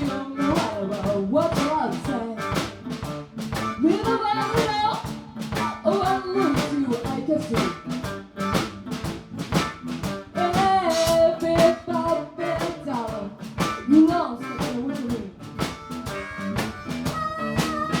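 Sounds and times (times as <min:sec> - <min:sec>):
drum kit beat: 0:00.0 - 0:18.0
live blues band playing: 0:00.0 - 0:18.0.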